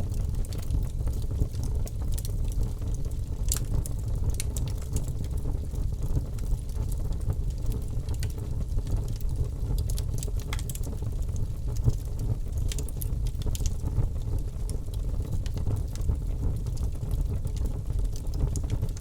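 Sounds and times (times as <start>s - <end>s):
logs burning in a fireplace: 0.0s - 19.0s.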